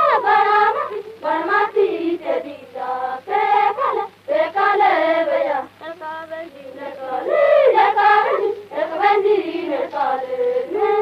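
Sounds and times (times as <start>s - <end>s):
high voices singing folk song: 0.0s - 11.0s
steady low hum: 0.0s - 11.0s.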